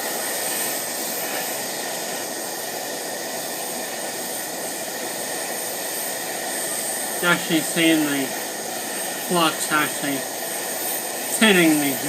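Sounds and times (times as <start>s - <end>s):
torch flame hissing: 0.0s - 12.0s.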